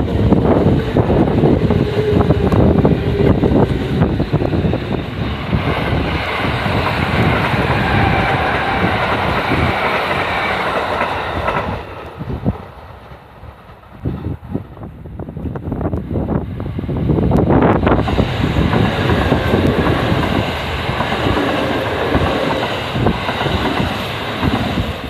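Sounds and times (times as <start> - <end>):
train wheels clattering on rails: 0.0 - 14.8, 17.2 - 25.0.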